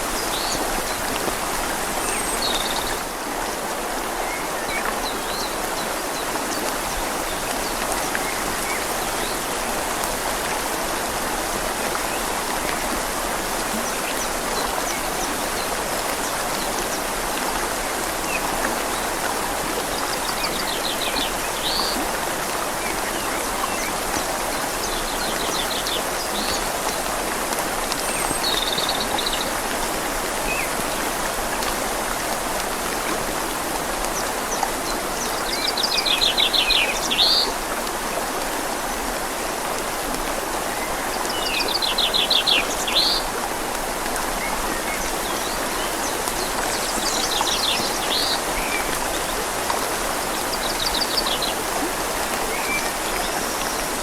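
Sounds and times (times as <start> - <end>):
rain falling on leaves: 0.0 - 54.0
river flowing: 0.0 - 54.0.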